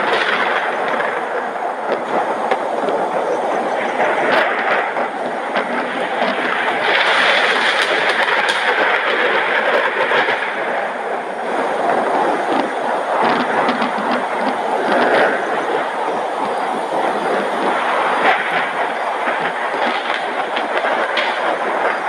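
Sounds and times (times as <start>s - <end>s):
raindrops clicking: 0.0s - 3.0s, 4.0s - 10.8s, 11.5s - 16.6s, 17.6s - 22.0s
heavy rain pouring: 0.0s - 22.0s.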